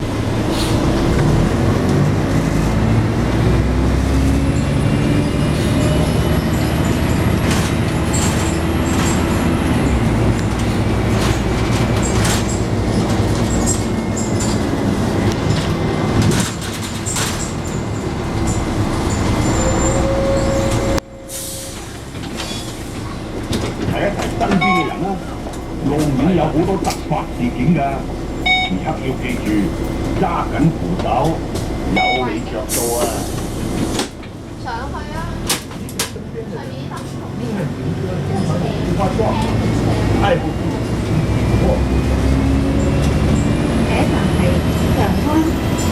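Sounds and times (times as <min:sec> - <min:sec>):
bus diesel engine running: 0:00.0 - 0:45.9
road and body rattle: 0:00.0 - 0:45.9.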